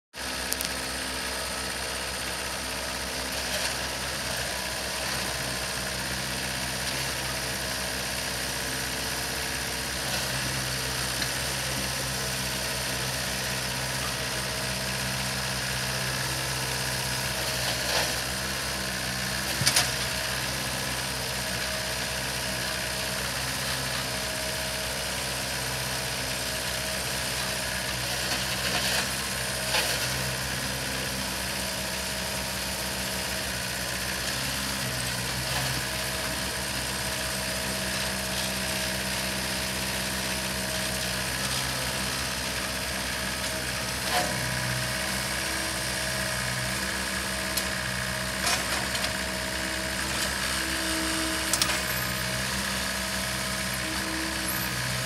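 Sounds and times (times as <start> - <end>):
tractor diesel engine idling: 0.2 - 55.0.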